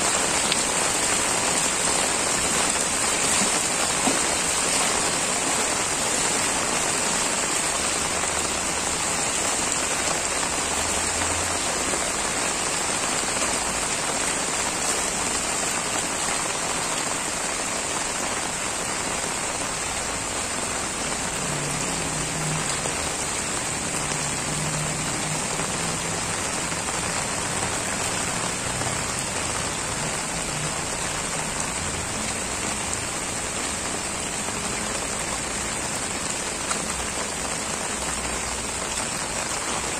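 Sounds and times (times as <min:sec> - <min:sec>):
heavy rain on floodwater: 0:00.0 - 0:39.9.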